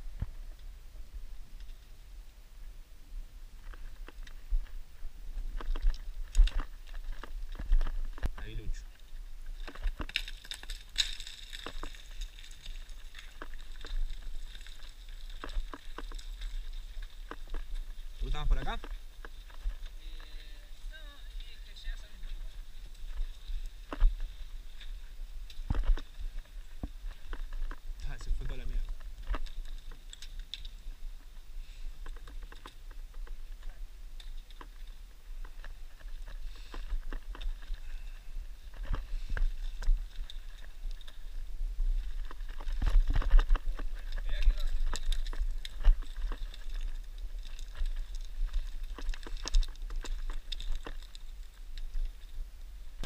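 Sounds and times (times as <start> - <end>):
wind rumble on microphone: 0.0 - 10.8, 11.6 - 53.0
boots crunching on scree: 3.6 - 52.3
trekking pole tips clicking on rock: 5.4 - 52.4.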